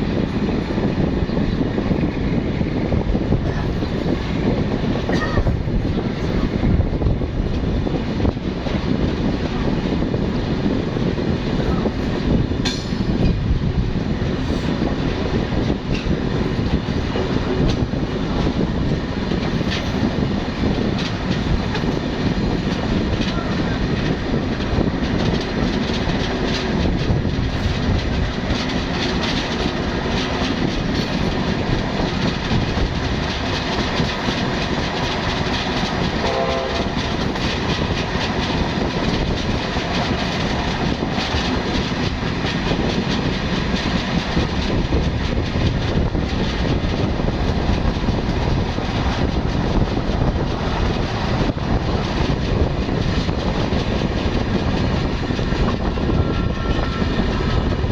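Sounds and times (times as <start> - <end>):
train coaches rumbling: 0.0 - 57.9
wheels clattering over rail joints: 0.0 - 57.9.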